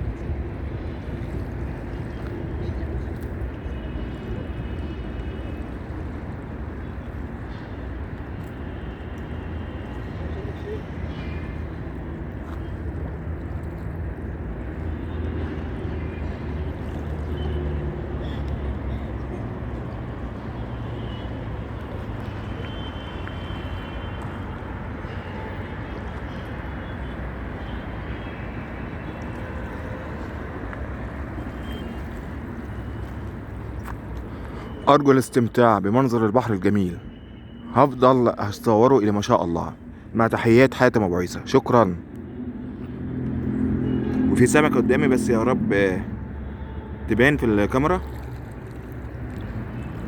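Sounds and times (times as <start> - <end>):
sea waves rumbling: 9.5 - 50.0.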